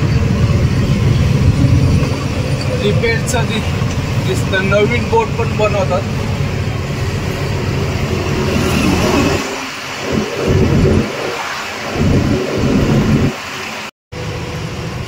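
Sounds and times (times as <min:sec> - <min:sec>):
wind buffeting microphone: 0:00.0 - 0:13.5
truck engine and road rumble: 0:00.0 - 0:15.0.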